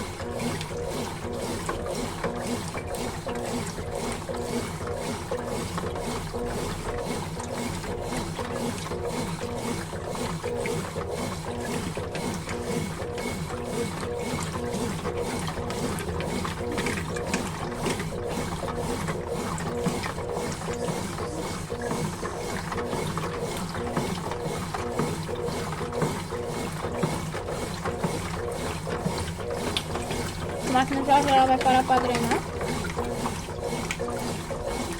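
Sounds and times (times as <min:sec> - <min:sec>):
washing machine motor running: 0:00.0 - 0:34.9
water churning in drum: 0:00.0 - 0:34.9.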